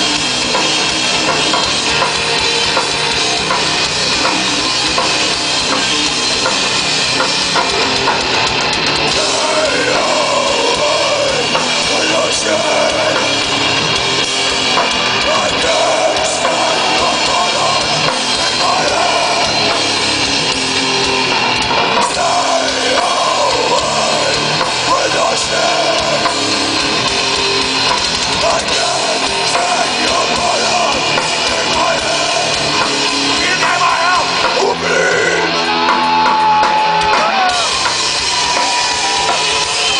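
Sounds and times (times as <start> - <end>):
bending electric guitar lead: 0.0 - 39.9
live rock band playing: 0.0 - 39.9.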